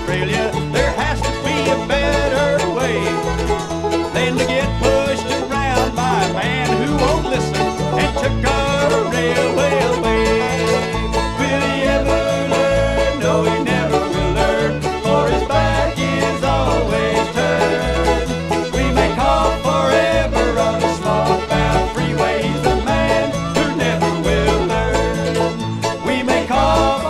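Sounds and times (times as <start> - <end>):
banjo picking: 0.0 - 27.0
guitar: 0.0 - 27.0
walking bass line: 0.0 - 27.0.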